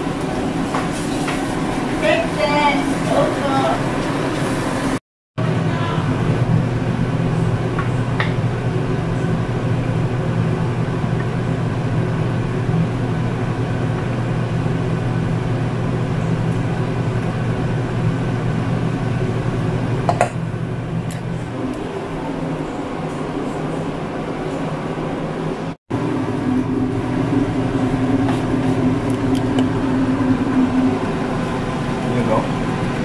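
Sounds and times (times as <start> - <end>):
range hood fan humming: 0.0 - 33.0.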